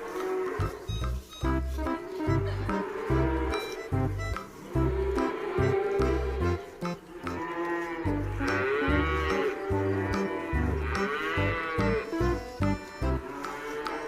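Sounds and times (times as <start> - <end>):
cattle mooing: 0.0 - 1.1, 2.2 - 3.9, 4.6 - 14.0
background music with bass beat: 0.6 - 7.0, 8.1 - 13.3.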